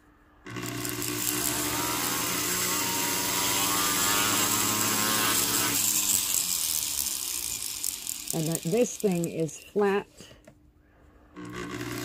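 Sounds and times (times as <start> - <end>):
rotary tool sanding: 0.5 - 9.9, 11.4 - 12.0.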